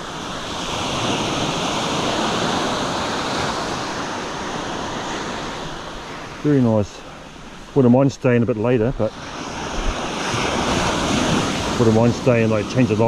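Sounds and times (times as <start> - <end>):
sea waves breaking: 0.0 - 13.0.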